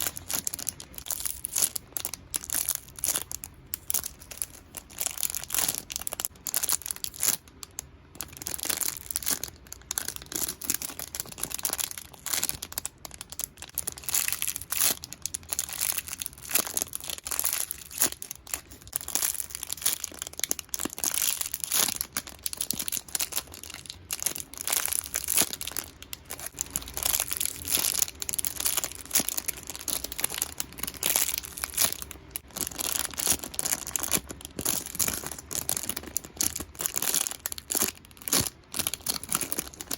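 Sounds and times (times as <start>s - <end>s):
plastic packaging crinkling: 0.0s - 39.9s.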